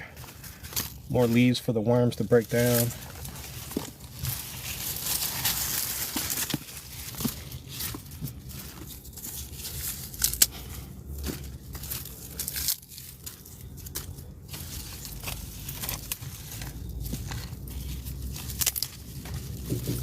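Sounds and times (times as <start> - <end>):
leaves tearing and crumpling: 0.2 - 20.0.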